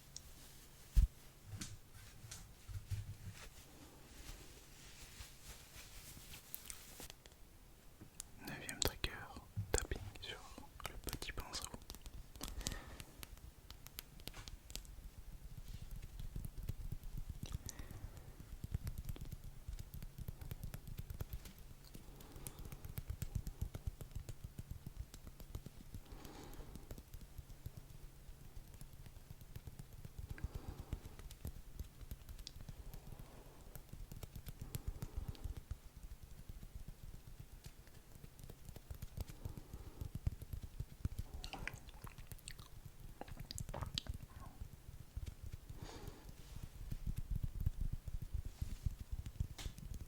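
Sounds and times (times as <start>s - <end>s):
rapid tapping and clicking: 8.0s - 50.0s.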